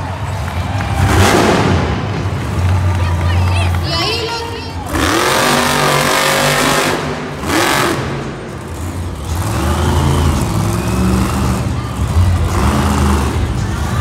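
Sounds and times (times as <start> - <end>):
monster truck engine revving: 0.0 - 3.8, 4.7 - 14.0.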